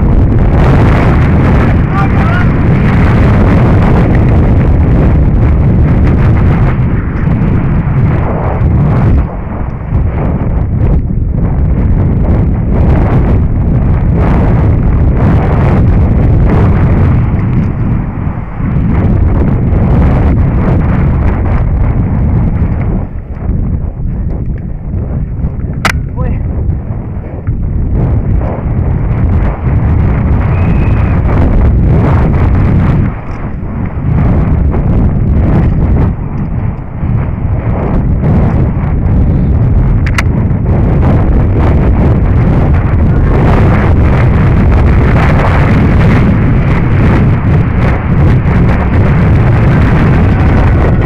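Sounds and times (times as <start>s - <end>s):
bike tyres rumbling on dirt: 0.0s - 51.0s
wind rushing over microphone: 0.0s - 51.0s.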